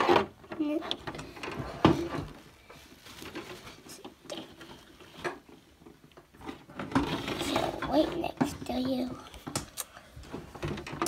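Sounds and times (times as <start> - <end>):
plastic dolls tapping and rustling: 0.0 - 11.0.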